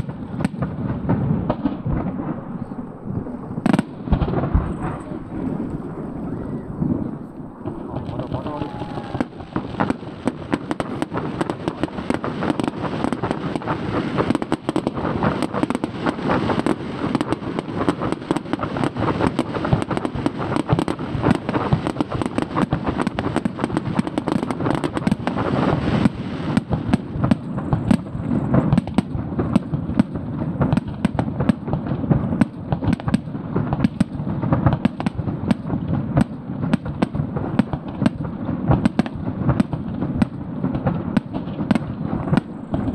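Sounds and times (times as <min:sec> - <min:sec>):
fireworks bursting in a barrage: 0:00.0 - 0:42.9.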